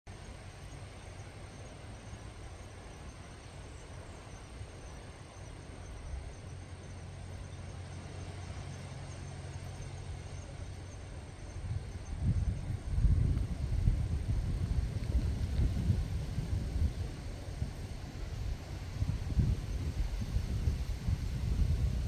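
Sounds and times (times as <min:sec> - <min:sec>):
even hiss: 0:00.1 - 0:22.0
faint high insect trill: 0:00.1 - 0:22.0
low steady rumble: 0:00.1 - 0:22.0.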